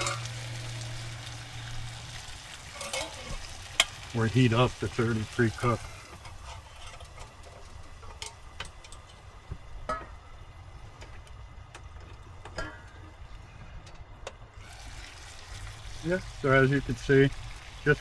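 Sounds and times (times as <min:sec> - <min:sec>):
stove humming: 0:00.0 - 0:18.0.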